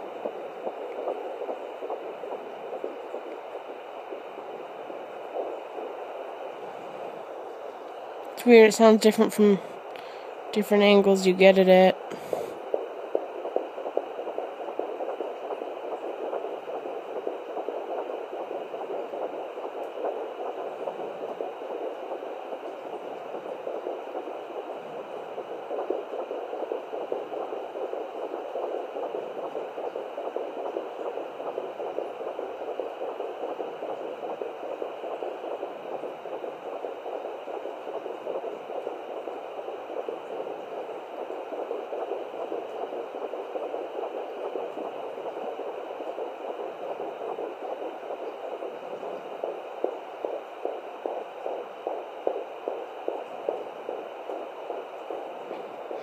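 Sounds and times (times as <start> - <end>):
fetal heartbeat whoosh: 0.0 - 56.0
steady hiss: 0.0 - 56.0.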